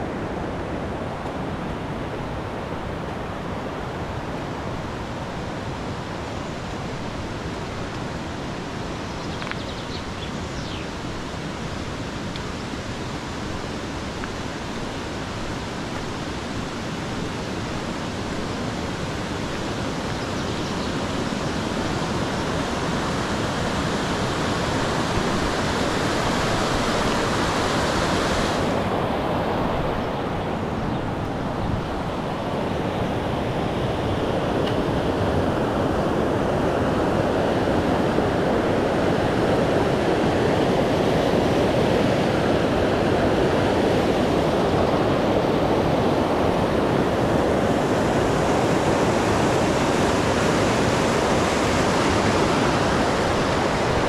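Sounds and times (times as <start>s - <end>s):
rushing mountain stream: 0.0s - 54.0s.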